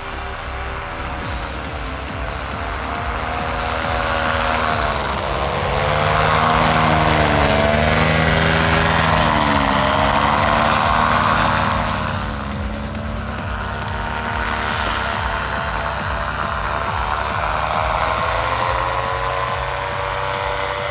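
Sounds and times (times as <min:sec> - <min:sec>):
paramotor engine and propeller: 0:00.0 - 0:20.9.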